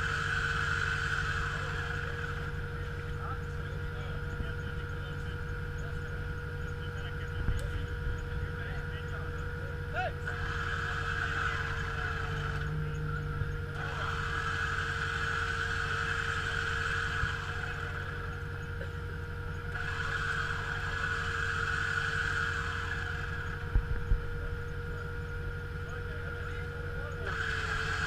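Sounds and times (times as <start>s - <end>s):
off-road vehicle rumble: 0.0s - 28.0s
steady whine: 0.0s - 28.0s.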